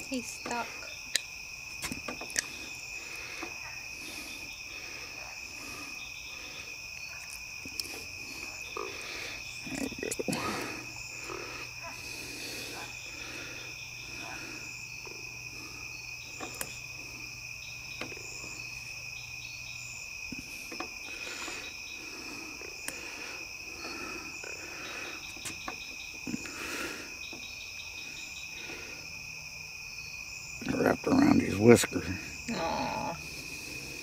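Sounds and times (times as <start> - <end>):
night insects trilling: 0.0 - 34.0.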